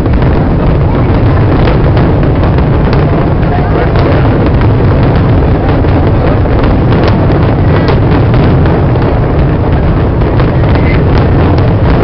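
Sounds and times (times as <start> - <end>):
fireworks crackles and pops: 0.0 - 12.0
fireworks rumbling bursts: 0.0 - 12.0.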